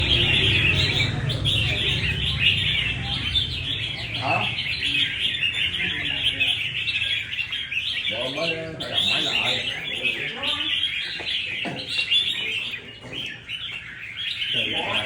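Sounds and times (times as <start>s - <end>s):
caged birds singing and chirping: 0.0s - 15.0s.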